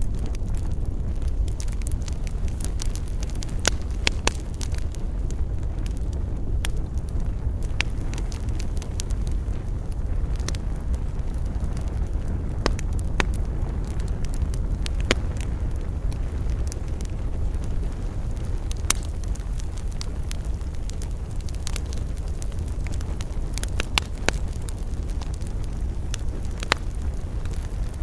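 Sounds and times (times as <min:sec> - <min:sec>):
steady low rumble: 0:00.0 - 0:28.0
wood fire crackling: 0:00.0 - 0:28.0.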